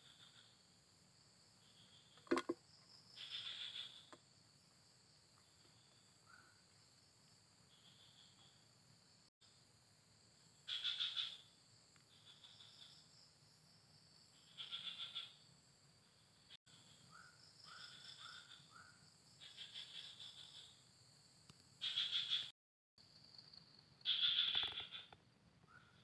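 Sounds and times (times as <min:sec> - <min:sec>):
crickets chirping in bursts: 0:00.0 - 0:26.0.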